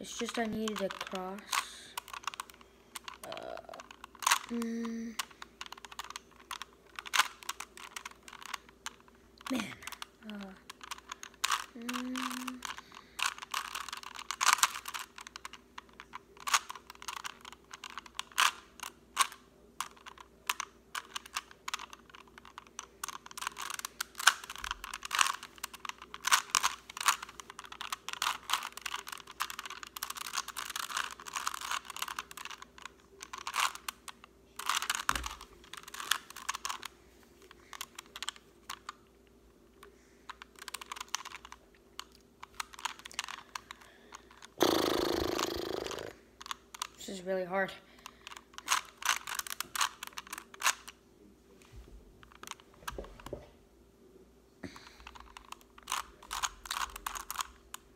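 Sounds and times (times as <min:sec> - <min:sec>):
puzzle cube clicking: 0:00.0 - 0:47.2, 0:48.0 - 0:51.0, 0:52.2 - 0:53.3, 0:54.6 - 0:57.9.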